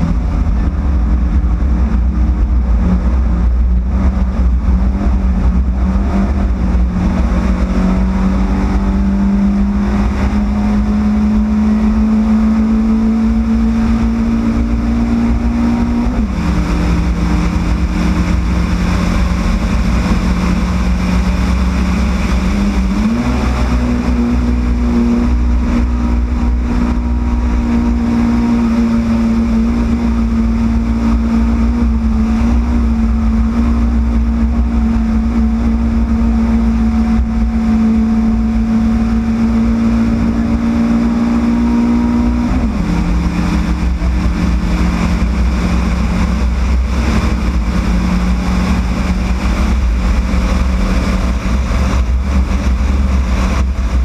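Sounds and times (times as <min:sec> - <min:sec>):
race car engine revving high: 0:00.0 - 0:54.0.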